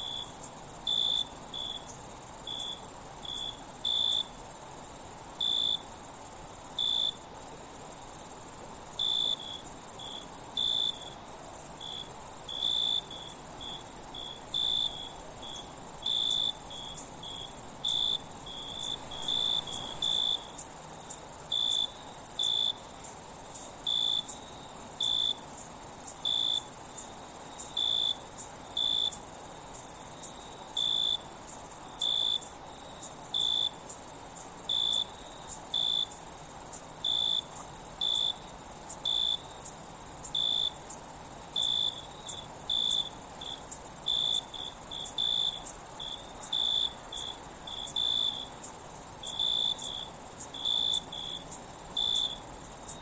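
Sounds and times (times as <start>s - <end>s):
crickets chirping: 0.0s - 53.0s
high-pitched insect trill: 0.0s - 53.0s.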